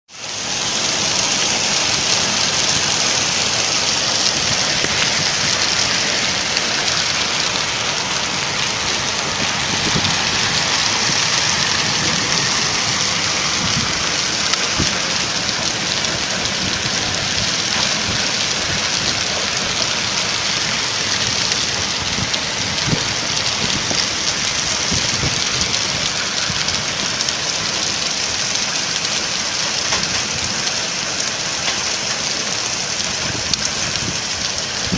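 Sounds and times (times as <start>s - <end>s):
heavy rain hissing: 0.1s - 34.9s
hailstones knocking: 0.3s - 34.9s.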